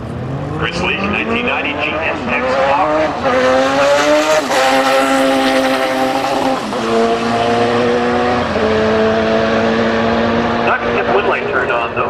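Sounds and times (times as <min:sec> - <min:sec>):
motorcycle engines at full throttle: 0:00.0 - 0:12.0.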